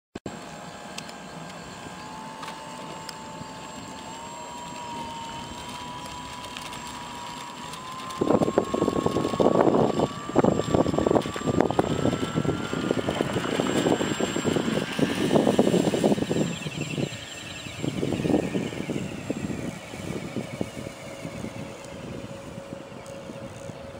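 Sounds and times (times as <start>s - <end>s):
propeller motor whining: 0.3s - 23.9s.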